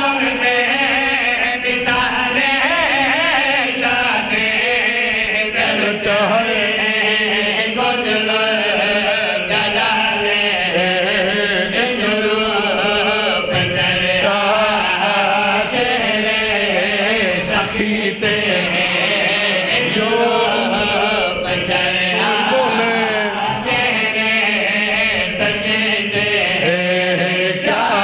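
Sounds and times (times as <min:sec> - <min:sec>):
men chanting into microphones: 0:00.0 - 0:28.0.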